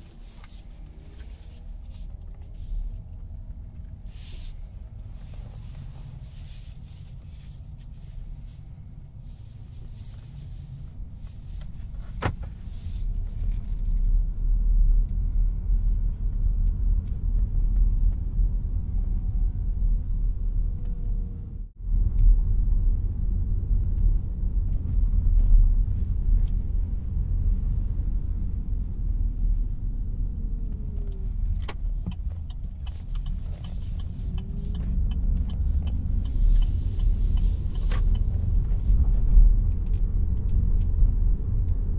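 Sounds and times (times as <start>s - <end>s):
road and tyre rumble: 0.0s - 41.9s.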